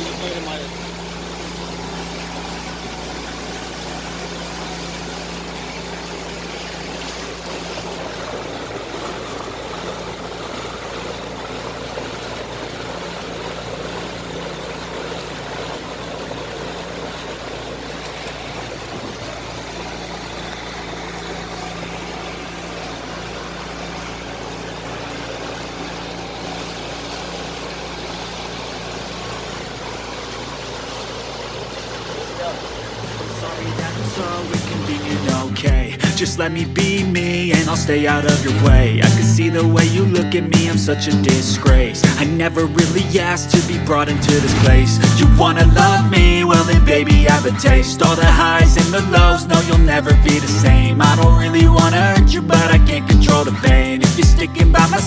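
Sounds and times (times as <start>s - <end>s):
motorboat engine humming: 0.0s - 55.0s.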